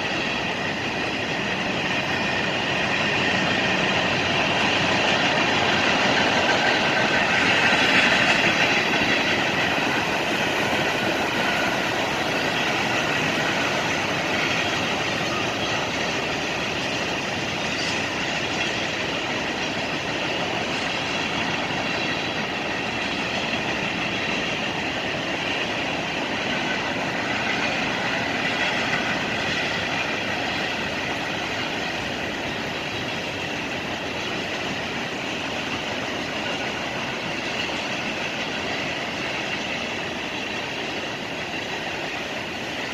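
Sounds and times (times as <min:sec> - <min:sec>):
freight train cars rattling: 0:00.0 - 0:42.9.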